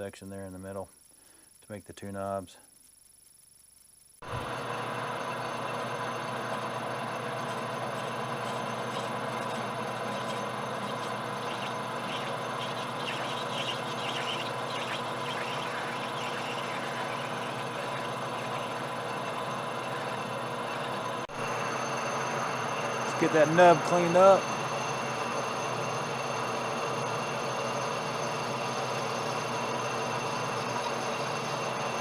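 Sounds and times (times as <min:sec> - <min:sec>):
metal lathe running: 0:04.2 - 0:32.0.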